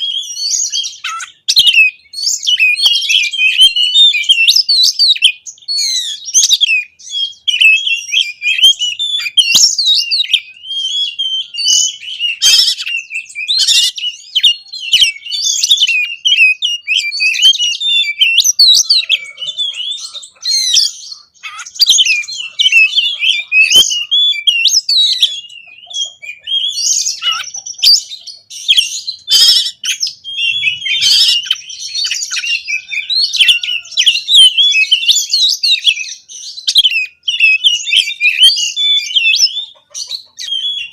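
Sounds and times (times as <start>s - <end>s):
magpie-robin singing: 0.0s - 40.9s.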